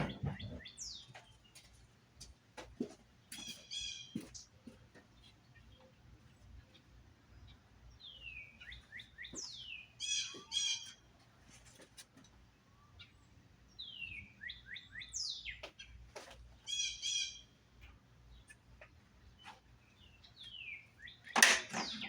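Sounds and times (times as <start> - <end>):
songbird singing: 0.0 - 1.9, 3.2 - 11.4, 12.5 - 22.0.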